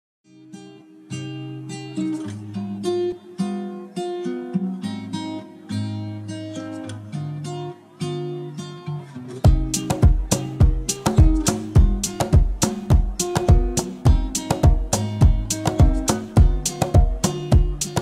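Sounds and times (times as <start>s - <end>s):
acoustic guitar music: 0.3s - 18.0s.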